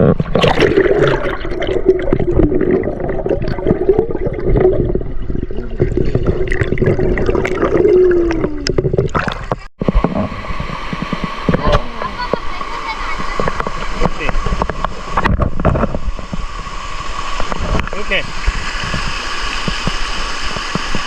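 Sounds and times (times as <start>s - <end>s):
stream water gurgling and rushing: 0.0s - 21.0s.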